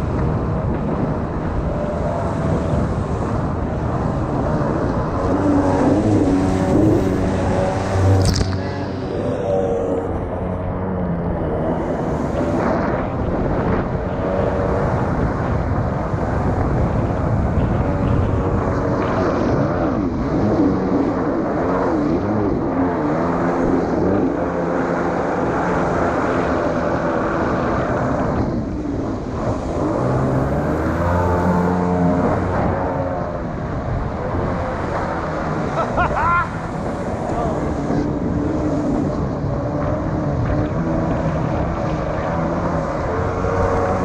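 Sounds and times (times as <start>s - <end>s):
jet ski engine revving: 0.0s - 44.0s.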